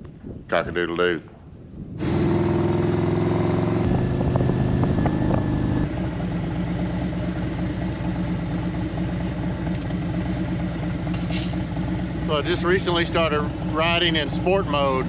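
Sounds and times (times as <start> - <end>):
motorcycle engine running: 2.0 - 15.0.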